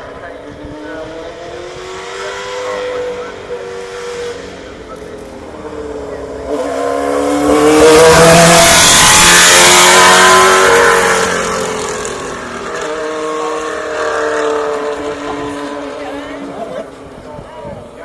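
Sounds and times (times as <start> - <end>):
race car engine passing: 0.0 - 18.0.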